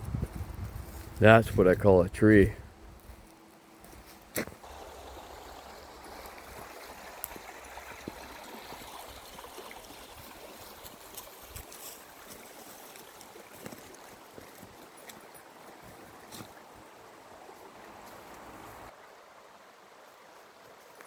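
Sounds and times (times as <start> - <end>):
river water rushing: 3.4 - 21.0.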